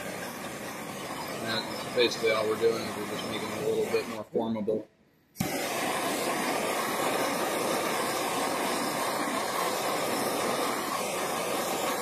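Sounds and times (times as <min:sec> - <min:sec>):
gas torch flame hissing: 0:00.0 - 0:04.6, 0:05.4 - 0:12.0.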